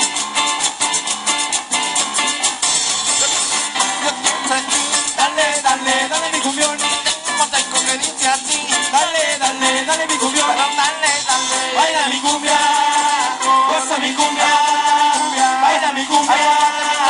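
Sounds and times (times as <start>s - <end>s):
live cumbia band: 0.0s - 17.0s.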